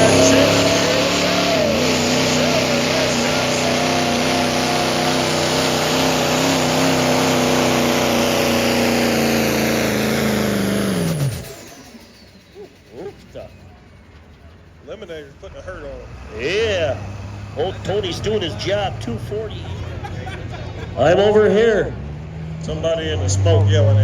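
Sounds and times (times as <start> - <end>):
diesel truck engine at high revs: 0.0 - 24.0.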